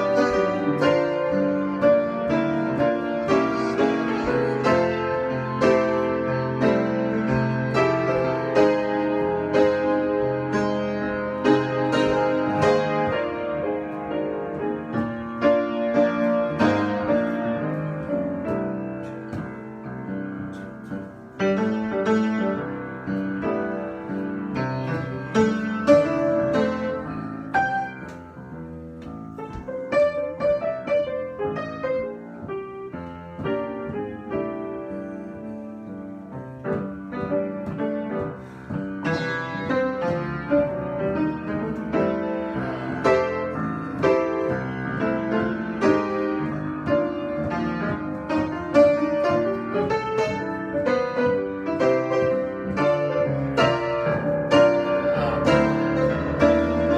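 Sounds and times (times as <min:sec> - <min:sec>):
piano improvisation: 0:00.0 - 0:56.9.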